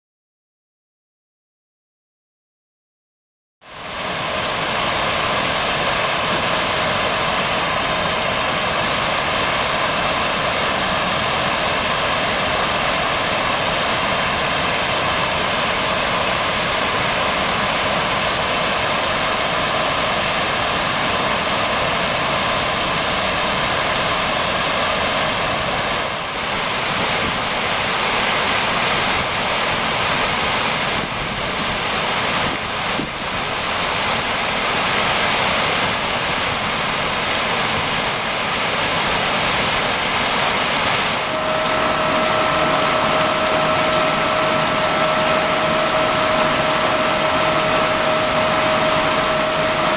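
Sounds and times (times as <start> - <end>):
water rushing over rocks: 3.7 - 49.9.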